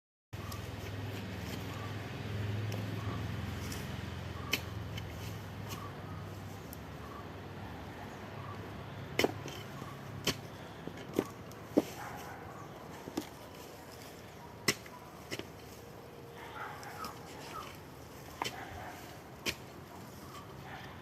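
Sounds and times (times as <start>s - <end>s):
faint steady background noise: 0.4s - 21.0s.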